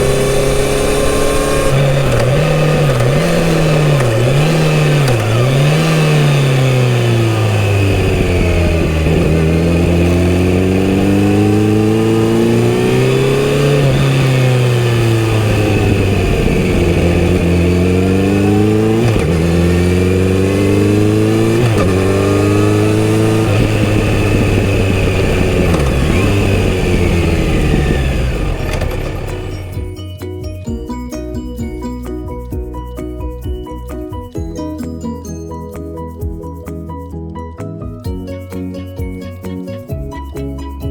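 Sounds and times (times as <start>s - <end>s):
motorcycle engine accelerating: 0.0s - 34.5s.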